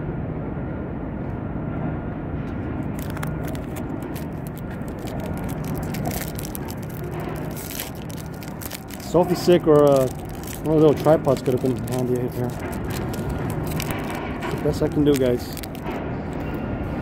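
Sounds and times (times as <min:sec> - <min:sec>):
crackling handling noise: 0:02.8 - 0:16.6
vehicle engines humming: 0:02.8 - 0:17.0.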